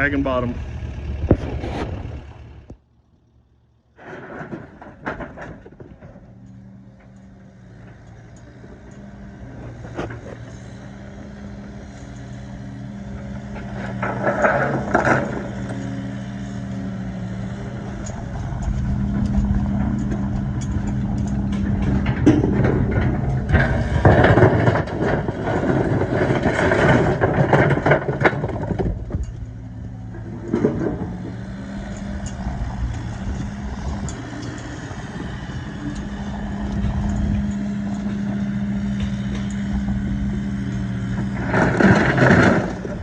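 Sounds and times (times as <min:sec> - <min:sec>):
heavy equipment engine running: 0:00.0 - 0:43.0
knocks and clatters: 0:04.0 - 0:43.0.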